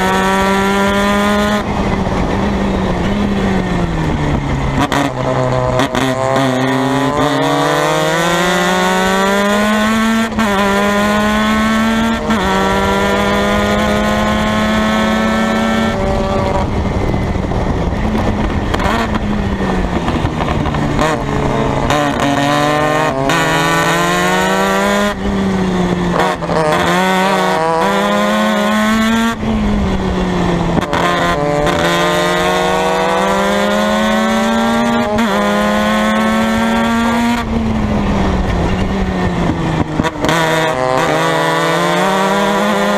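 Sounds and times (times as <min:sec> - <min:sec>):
race car engine at high revs: 0:00.0 - 0:42.9.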